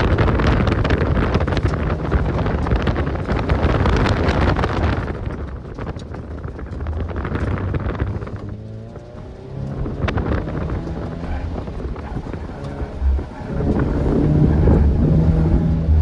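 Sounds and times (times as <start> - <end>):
car engine running hard: 0.0 - 16.0
wind buffeting microphone: 0.0 - 16.0.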